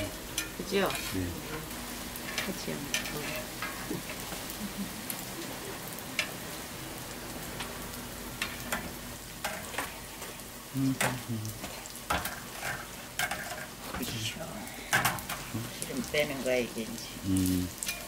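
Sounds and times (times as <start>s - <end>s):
pancakes sizzling in hot oil: 0.0s - 18.0s.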